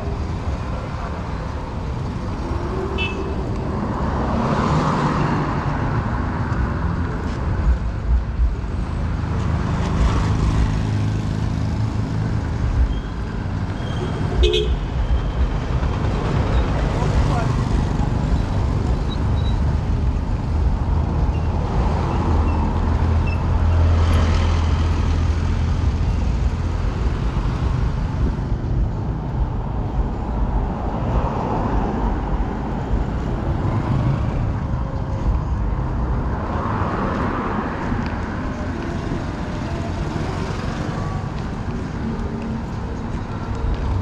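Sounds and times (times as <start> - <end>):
low traffic rumble: 0.0 - 44.0
vehicles passing: 0.0 - 44.0.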